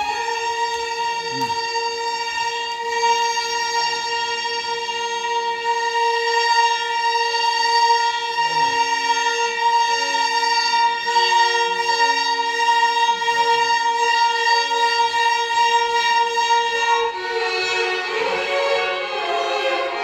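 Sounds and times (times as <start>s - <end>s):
violin ensemble playing: 0.0s - 20.0s.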